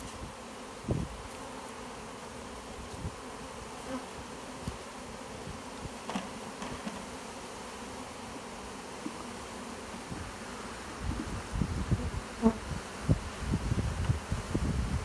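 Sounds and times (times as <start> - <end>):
bees flying close past: 0.0 - 15.0
honey bees buzzing: 0.0 - 15.0.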